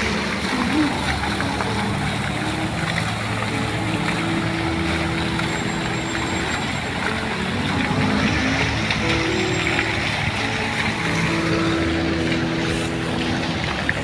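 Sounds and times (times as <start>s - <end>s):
motorboat engine running: 0.0s - 14.0s
water wash: 0.0s - 14.0s.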